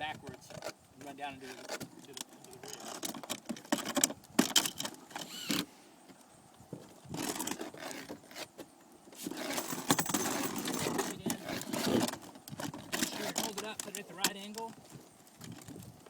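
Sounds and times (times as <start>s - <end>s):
scraping and rustling: 0.1s - 16.0s.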